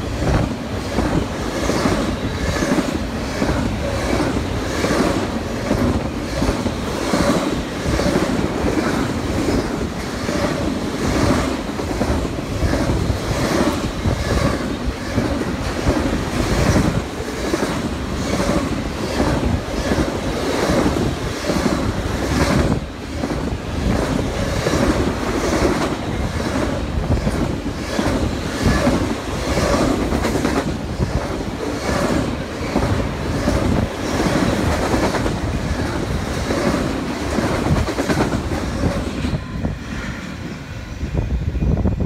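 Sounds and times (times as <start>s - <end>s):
train rumble and rush: 0.0s - 42.0s.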